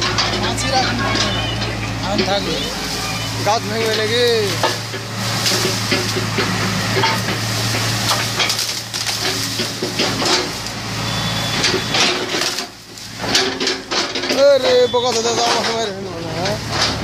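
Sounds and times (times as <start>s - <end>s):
metal clanks and rattles: 0.0s - 10.8s, 11.5s - 17.0s
excavator engine running: 0.0s - 17.0s.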